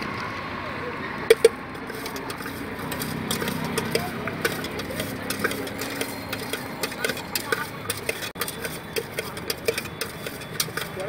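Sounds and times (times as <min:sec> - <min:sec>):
fruit pieces clattering in steel bowl: 0:01.3 - 0:11.0.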